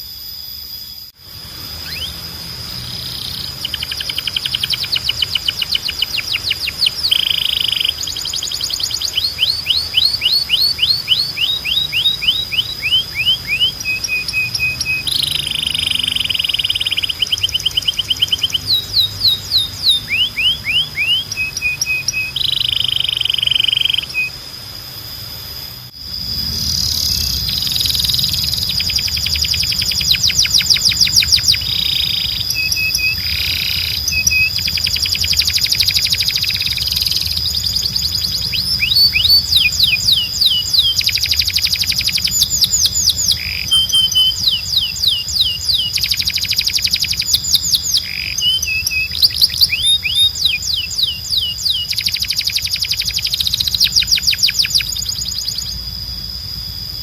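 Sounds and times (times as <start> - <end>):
low hum: 0.0 - 49.6
steady high tone: 0.0 - 57.0
canary singing trills: 1.0 - 57.0.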